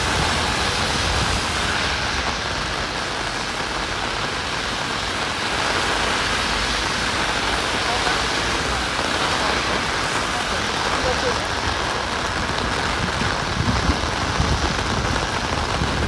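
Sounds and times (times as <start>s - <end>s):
heavy rain splashing: 0.0s - 16.0s.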